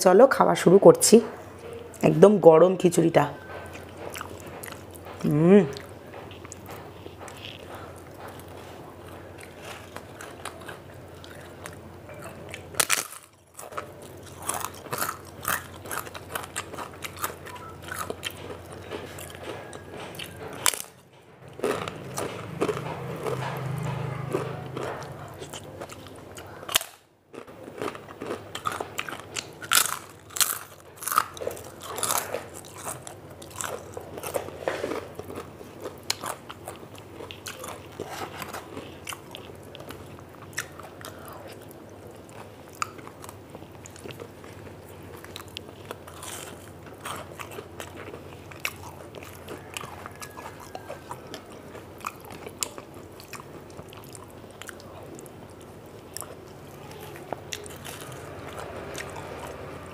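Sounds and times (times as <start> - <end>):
person chewing crunchy food: 3.4 - 59.9.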